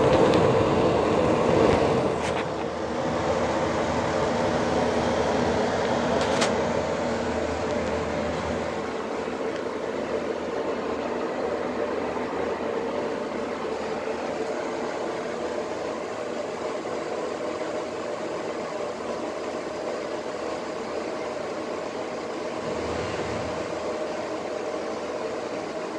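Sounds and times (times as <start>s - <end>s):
exhaust fan humming: 0.0s - 25.9s.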